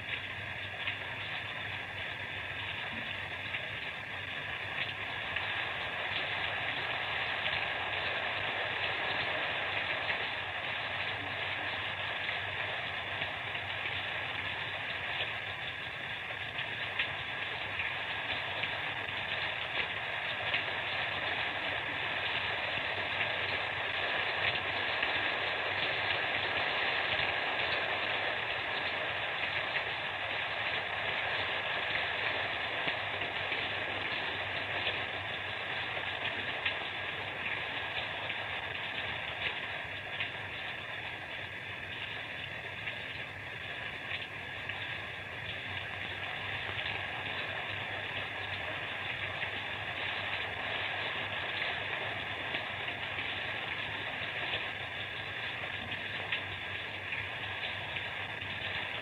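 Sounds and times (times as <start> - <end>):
faint ticks of raindrops: 0.0 - 59.0
steady rain falling: 0.0 - 59.0.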